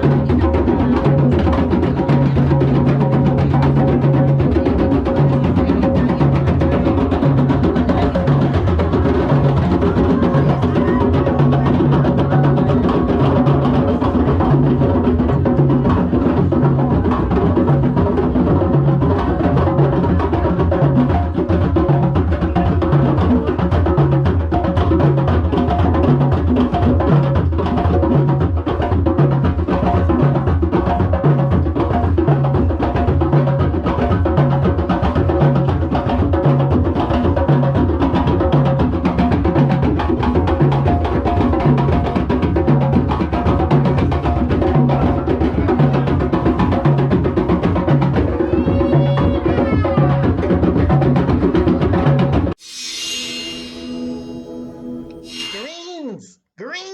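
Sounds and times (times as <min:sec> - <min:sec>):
deep drum beat: 0:00.0 - 0:54.6
hand drums playing: 0:00.0 - 0:56.9.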